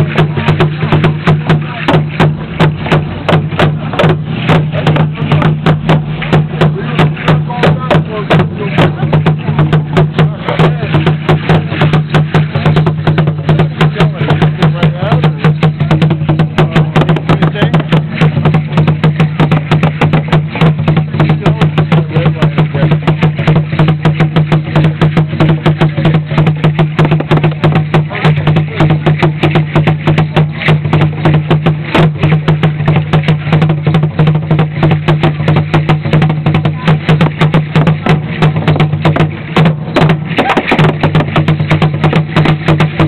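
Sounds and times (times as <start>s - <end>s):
upright drum beaten with sticks: 0.0s - 43.0s.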